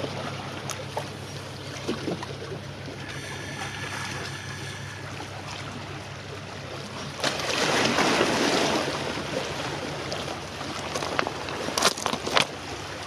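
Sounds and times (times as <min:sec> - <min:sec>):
faint low hum: 0:00.0 - 0:11.7
water surge: 0:00.0 - 0:11.8
small waves lapping: 0:00.0 - 0:13.0.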